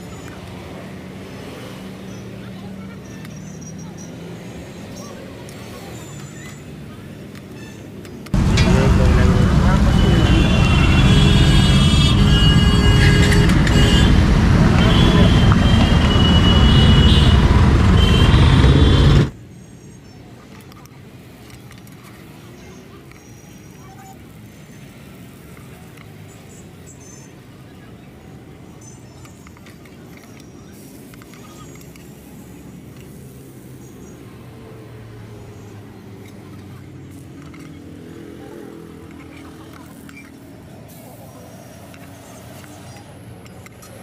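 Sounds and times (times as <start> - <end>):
road traffic engines: 0.0 - 44.0.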